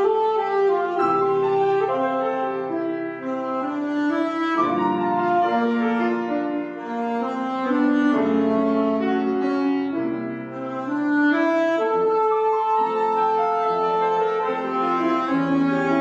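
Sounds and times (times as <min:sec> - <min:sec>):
piano accompaniment: 0:00.0 - 0:16.0
wind instrument slow melody: 0:00.0 - 0:16.0.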